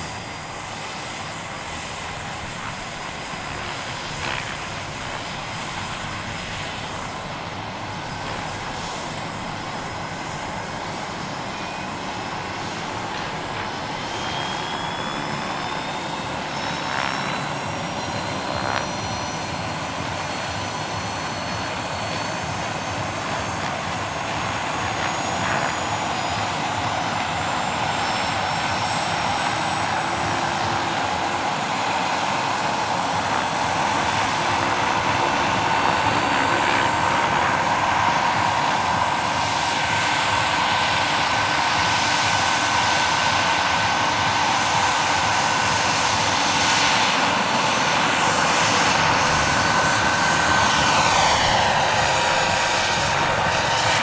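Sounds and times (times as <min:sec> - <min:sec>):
model helicopter turbine whine: 0:00.0 - 0:54.0.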